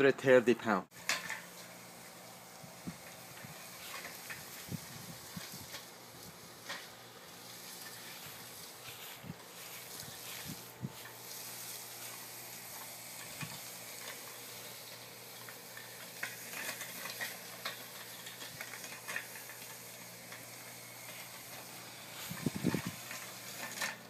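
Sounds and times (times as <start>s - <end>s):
electric motors humming: 1.0s - 24.0s
tyres crackling over dry leaves: 1.0s - 24.0s.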